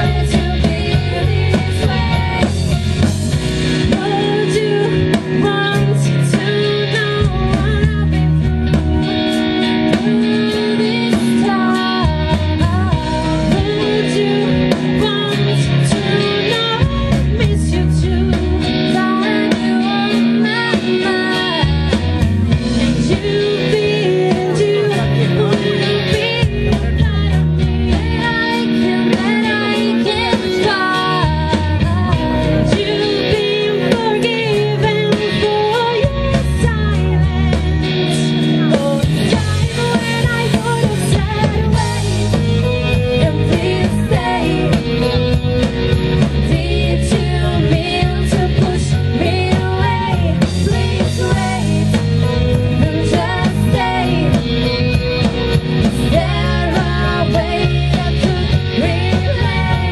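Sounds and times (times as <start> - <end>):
women singing into microphones: 0.0 - 8.6, 9.8 - 45.4, 46.2 - 54.7, 55.8 - 59.9
drum kit: 0.0 - 59.9
electric guitar: 0.0 - 59.9.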